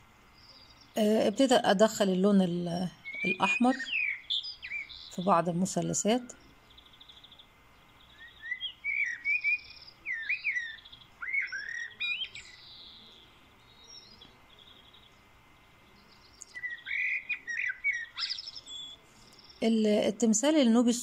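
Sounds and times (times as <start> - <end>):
small bird chirping: 0.3 - 20.1.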